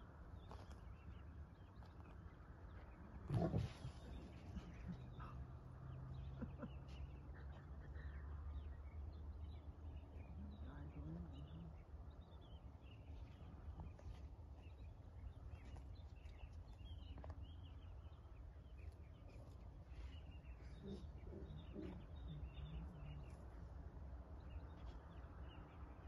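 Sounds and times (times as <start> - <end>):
faint bird chirps: 0.5 - 26.0.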